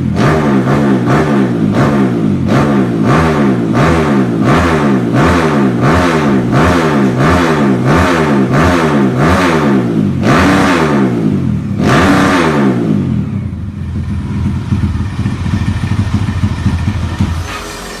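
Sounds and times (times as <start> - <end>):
single-cylinder engine revving: 0.0 - 18.0.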